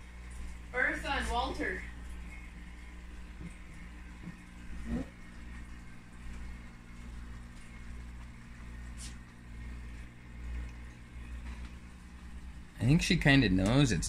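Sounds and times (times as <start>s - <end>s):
aquarium pump hum: 0.0s - 14.0s.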